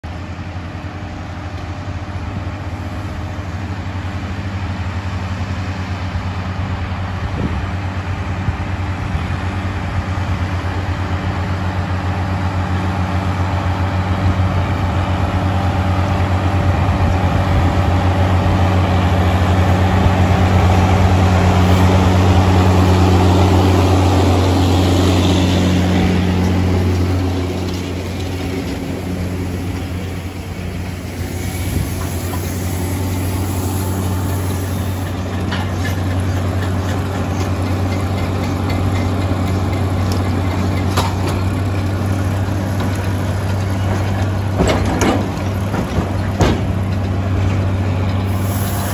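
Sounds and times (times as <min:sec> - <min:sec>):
tractor diesel engines: 0:00.0 - 0:48.9.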